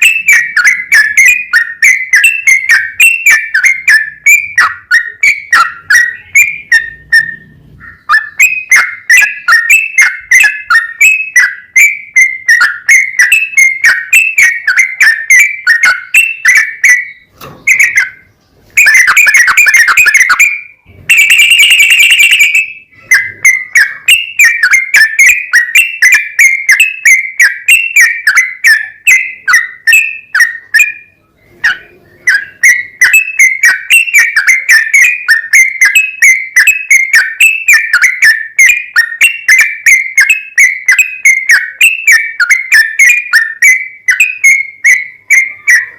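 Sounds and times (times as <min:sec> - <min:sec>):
harsh bird call bursts: 0:00.0 - 0:39.3
bird chirping: 0:00.0 - 0:45.9.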